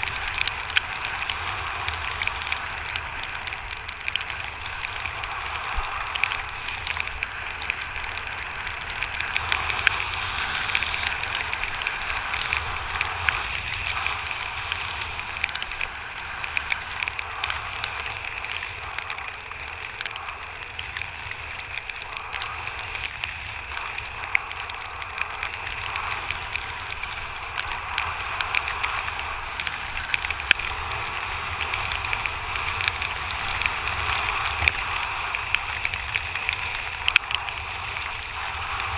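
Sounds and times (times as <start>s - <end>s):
small ticks: 0.0s - 38.9s
water and wind rushing: 0.0s - 38.9s.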